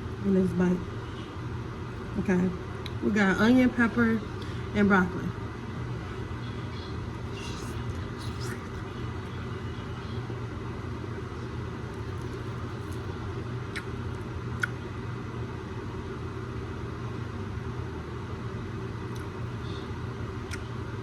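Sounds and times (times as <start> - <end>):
exhaust fan humming: 0.0 - 21.0.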